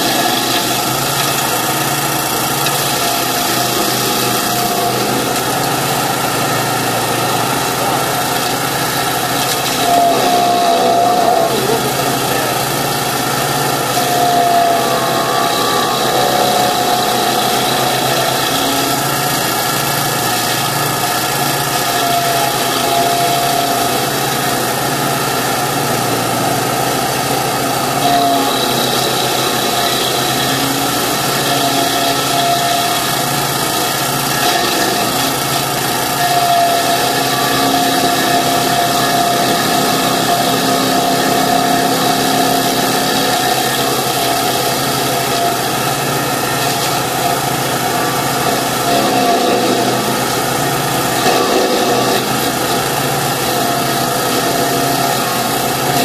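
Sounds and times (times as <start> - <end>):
loader engine running: 0.0 - 56.0.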